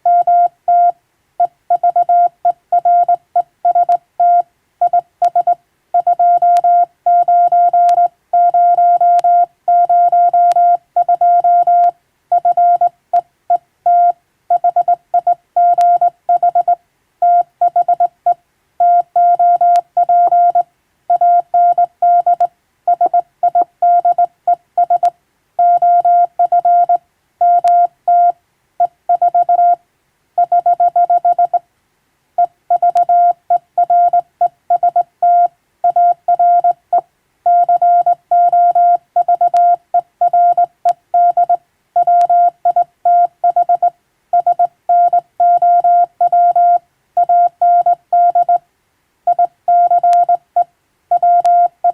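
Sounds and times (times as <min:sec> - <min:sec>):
morse code beeps: 0:00.0 - 0:12.9, 0:13.9 - 0:18.1, 0:18.8 - 0:28.4, 0:29.1 - 0:29.8, 0:30.4 - 0:31.6, 0:32.4 - 0:48.6, 0:49.3 - 0:51.9.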